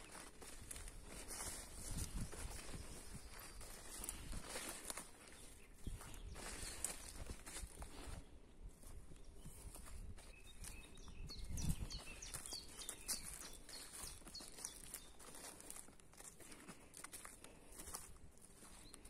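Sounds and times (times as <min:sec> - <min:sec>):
soft footsteps in a field: 0:00.0 - 0:19.0.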